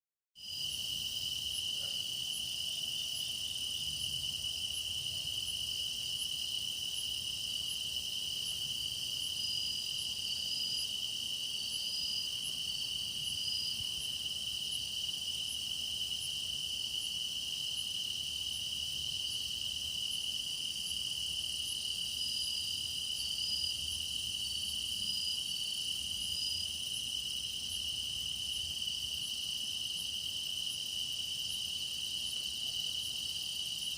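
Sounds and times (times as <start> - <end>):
crickets trilling: 0.4 - 33.9
insect chirps: 0.4 - 33.9.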